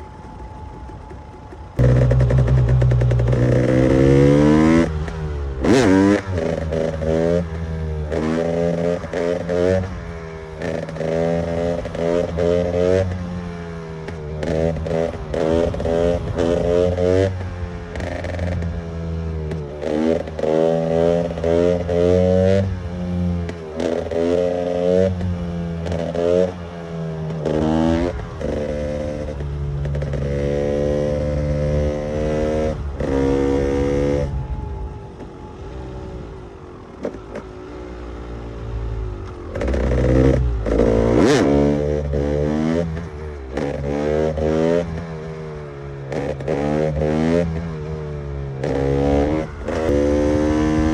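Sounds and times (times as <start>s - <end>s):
two-stroke engine revving: 1.8s - 34.8s, 36.9s - 50.9s.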